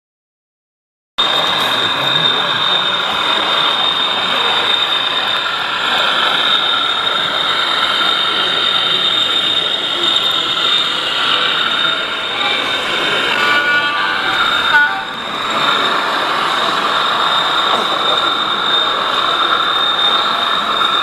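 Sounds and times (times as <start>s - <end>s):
exhibition hall background noise: 1.2s - 21.0s
model train whining: 1.2s - 21.0s
wheels running on track: 1.2s - 21.0s.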